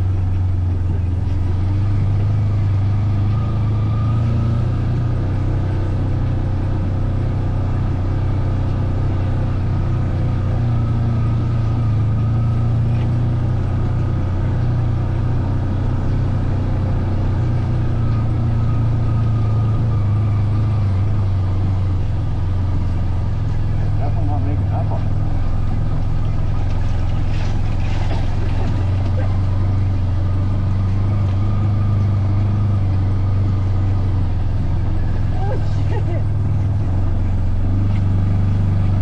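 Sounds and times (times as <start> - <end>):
vehicle engine drone: 0.0 - 39.0.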